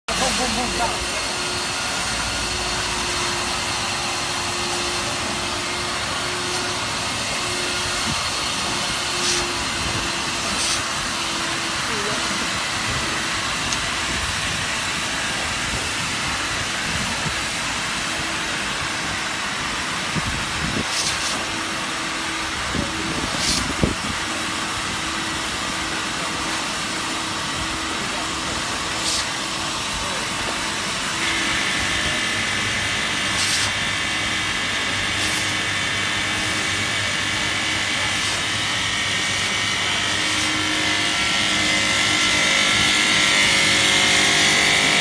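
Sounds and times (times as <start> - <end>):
vacuum cleaner running: 0.1 - 45.0.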